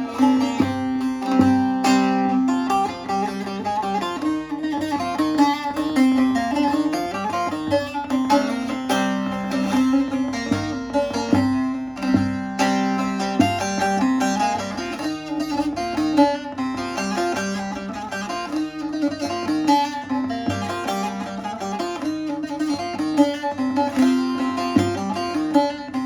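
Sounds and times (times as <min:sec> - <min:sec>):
plucked lute notes: 0:00.0 - 0:26.0.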